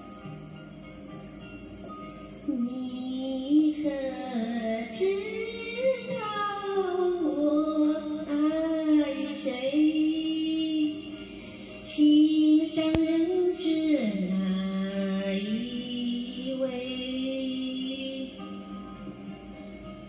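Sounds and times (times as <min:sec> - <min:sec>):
recorded backing music: 0:00.0 - 0:20.0
woman singing a slow ballad: 0:02.4 - 0:18.8.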